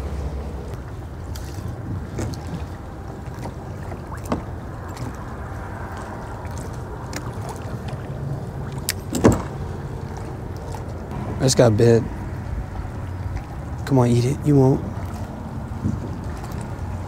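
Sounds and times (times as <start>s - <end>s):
water around kayak: 0.0s - 17.0s
wind rumble on microphone: 0.0s - 17.0s.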